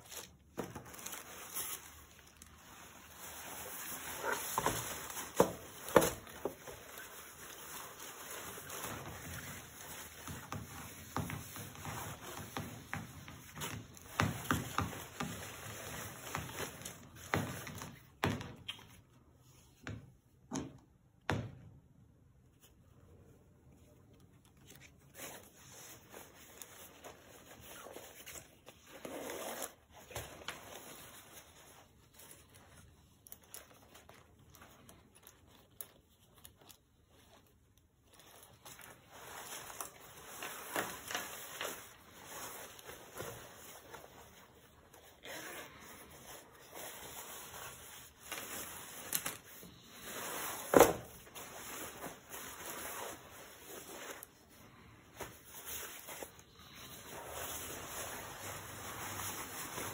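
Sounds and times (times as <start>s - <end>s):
nylon jacket rustling: 0.0s - 17.9s, 23.8s - 59.9s.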